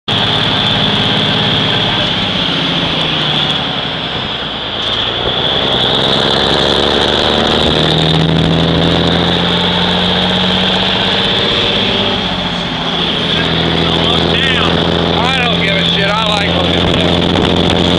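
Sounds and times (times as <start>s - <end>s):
road and wind noise: 0.1s - 17.9s
truck engine running: 0.1s - 17.9s.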